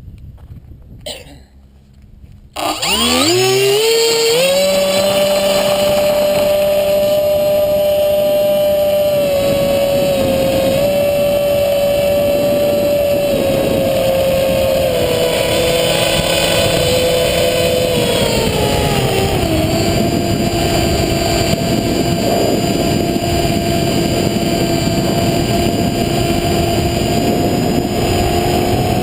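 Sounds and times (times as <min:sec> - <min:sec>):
drone motors whining: 0:02.5 - 0:29.0.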